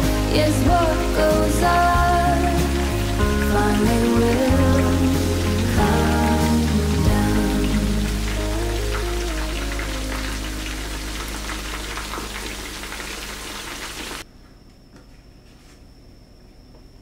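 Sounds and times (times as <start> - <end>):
deep-frying sizzle: 0.0 - 14.2.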